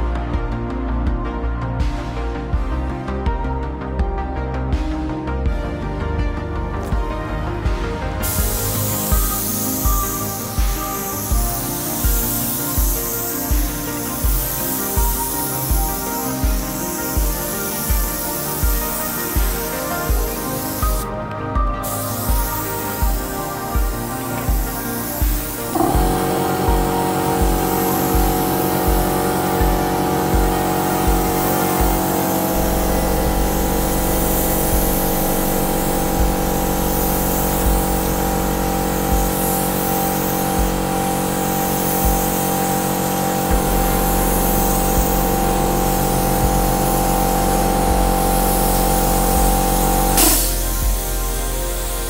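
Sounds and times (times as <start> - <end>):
music with chords and low beat: 0.0 - 52.0
high hiss: 8.2 - 21.1, 21.8 - 52.0.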